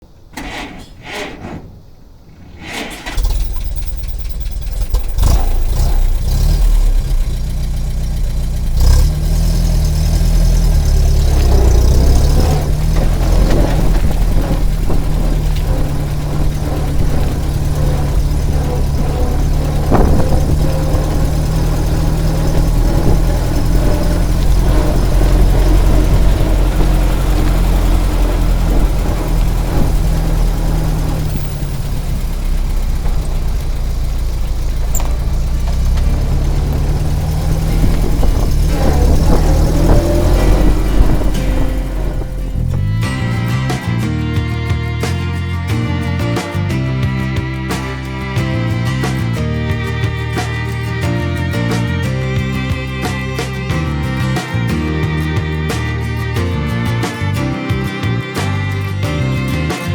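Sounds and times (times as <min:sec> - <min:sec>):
engine cranking and idling: 0:00.0 - 0:59.9.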